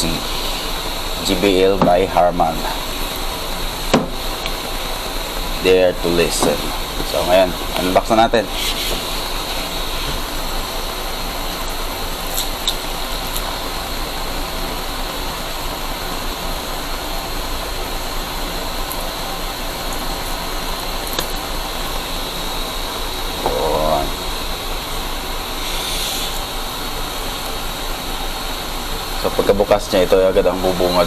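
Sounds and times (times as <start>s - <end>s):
steady rushing noise: 0.0s - 31.0s.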